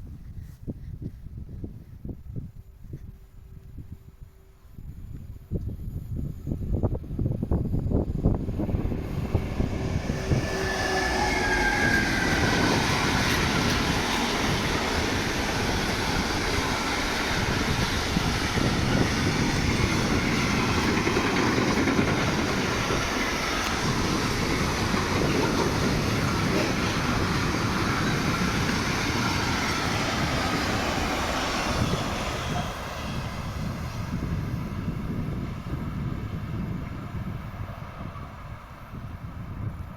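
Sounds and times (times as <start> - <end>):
train wheels rumbling on rails: 6.5 - 39.9.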